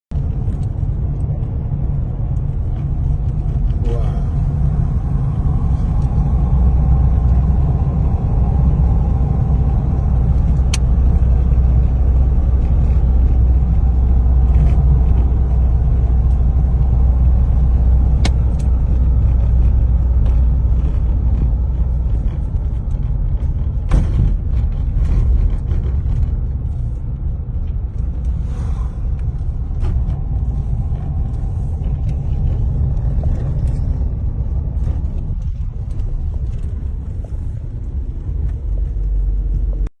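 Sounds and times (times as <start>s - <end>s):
car driving rumble: 0.1s - 40.0s.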